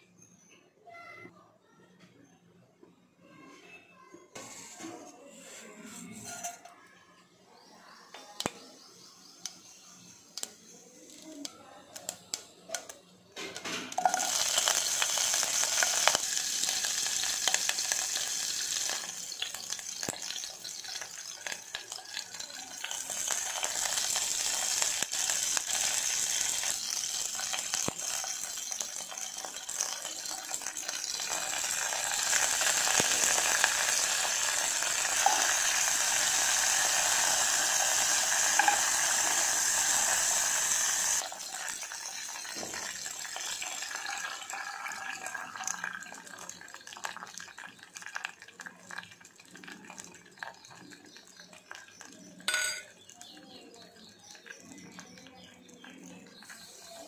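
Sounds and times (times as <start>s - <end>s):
spices sizzling in hot oil: 7.9s - 57.0s.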